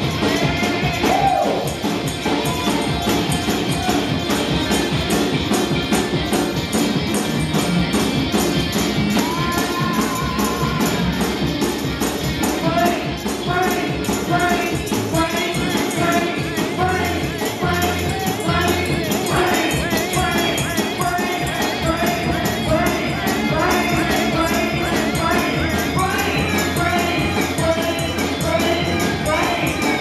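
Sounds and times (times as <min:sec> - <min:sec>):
voices singing and shouting: 0:00.0 - 0:05.3, 0:09.0 - 0:11.3, 0:12.5 - 0:30.0
gospel band playing: 0:00.0 - 0:30.0
tambourine beat: 0:00.0 - 0:30.0.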